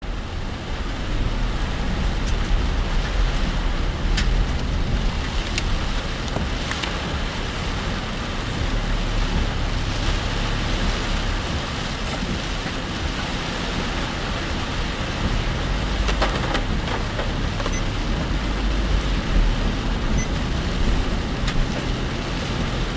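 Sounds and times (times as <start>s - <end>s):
car engine and road noise: 0.0s - 22.9s
rain hissing on a car: 0.0s - 22.9s.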